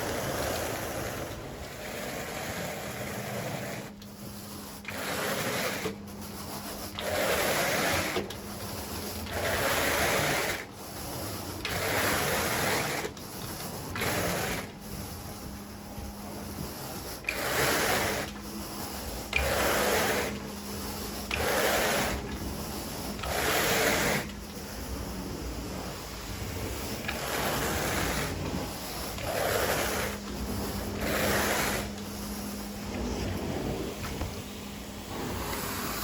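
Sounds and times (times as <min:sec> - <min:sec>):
rake rasping through carpet: 0:00.0 - 0:34.4
steady low hum: 0:00.0 - 0:36.0.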